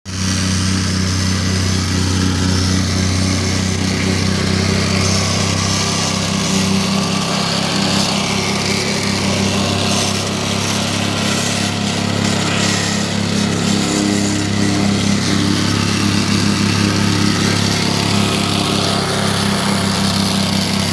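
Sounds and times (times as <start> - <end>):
plate compactor running: 0.1 - 20.9.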